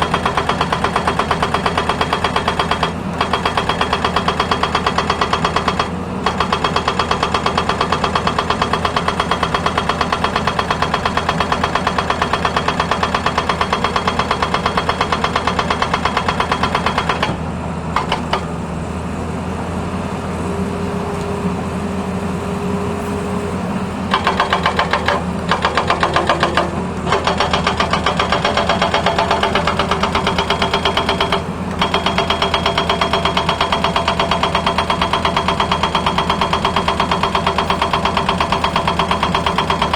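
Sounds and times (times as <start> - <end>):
hydraulic breaker hammer pounding: 0.0 - 18.8, 24.0 - 39.9
diesel engine running: 0.0 - 39.9.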